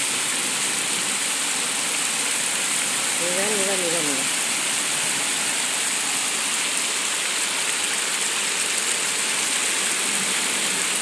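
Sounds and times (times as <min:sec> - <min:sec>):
floodwater rushing: 0:00.0 - 0:11.0
torrential rain: 0:00.0 - 0:11.0.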